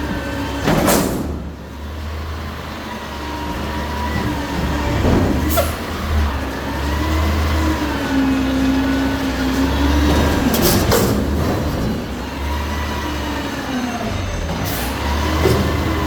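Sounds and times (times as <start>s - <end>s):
garbage truck diesel engine: 0.0s - 16.0s.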